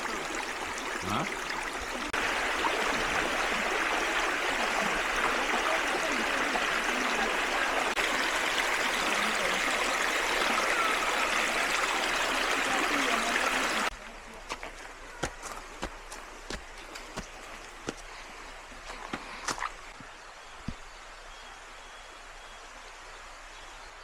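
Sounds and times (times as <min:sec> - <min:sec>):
creek water flowing: 0:00.0 - 0:24.0.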